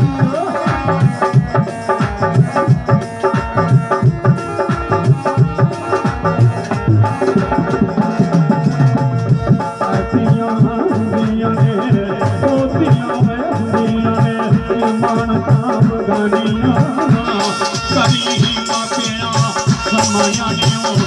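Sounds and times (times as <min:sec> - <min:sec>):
electronic keyboard melody: 0:00.0 - 0:21.0
fast hand drum rhythm: 0:00.0 - 0:21.0.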